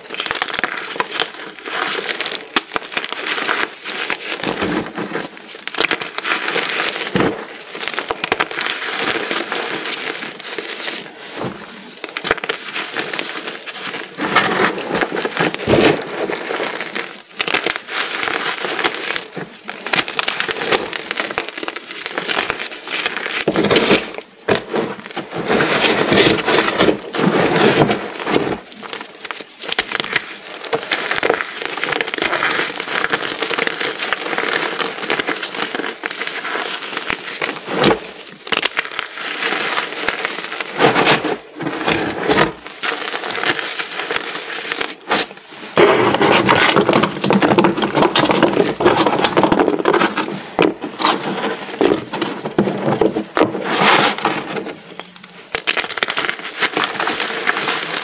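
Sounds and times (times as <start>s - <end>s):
chalk pieces crunching: 0.0s - 58.0s.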